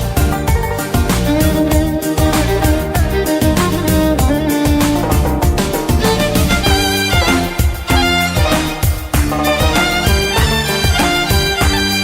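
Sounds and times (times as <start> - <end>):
fiddle melody over a beat: 0.0 - 12.0.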